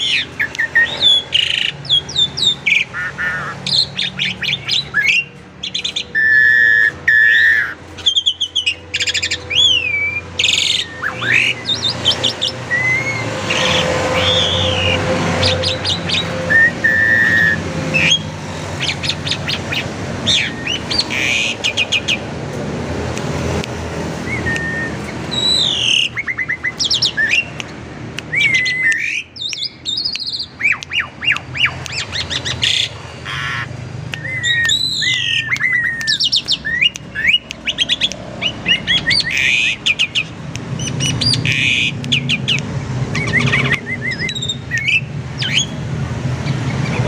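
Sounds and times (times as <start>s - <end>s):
starling singing varied song: 0.0s - 47.0s.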